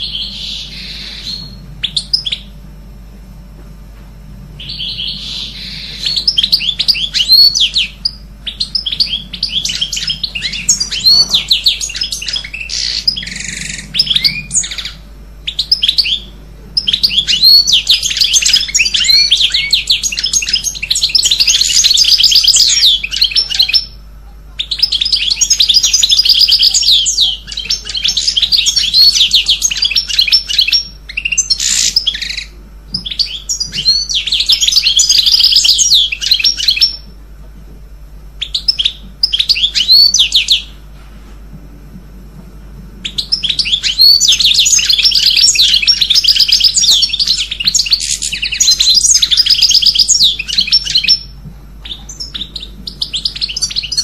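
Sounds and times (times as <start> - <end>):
small songbird chirping: 0.0 - 2.6, 4.6 - 37.2, 38.4 - 40.8, 43.0 - 54.0.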